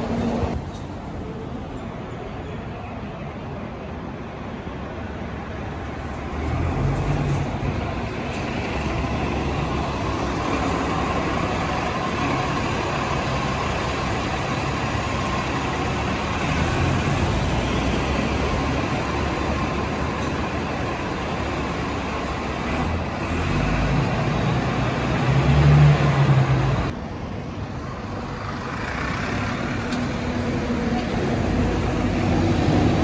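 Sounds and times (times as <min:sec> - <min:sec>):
bus engine running: 0:00.0 - 0:02.2, 0:03.9 - 0:33.0.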